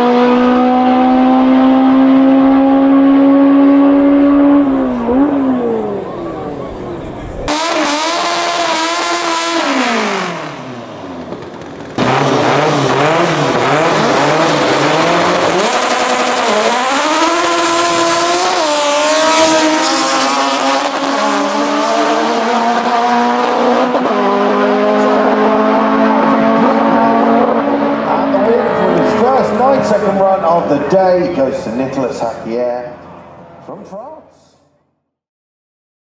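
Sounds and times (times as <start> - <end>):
car engine revving through gears: 0.0 - 30.9.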